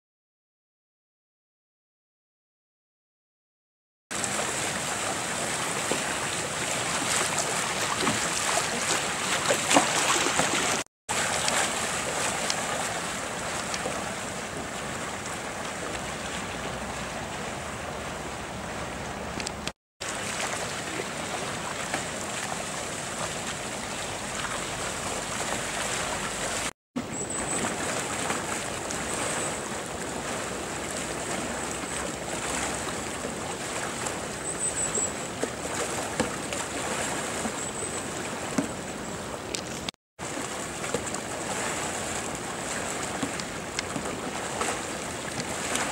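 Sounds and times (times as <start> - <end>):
paddle strokes and splashes: 4.1 - 45.9
water rushing: 4.1 - 45.9.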